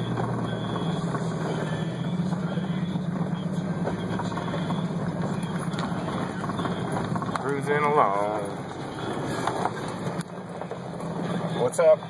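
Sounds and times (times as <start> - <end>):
engine droning at low speed: 0.0 - 12.0
tyres rolling over gravel: 0.0 - 12.0.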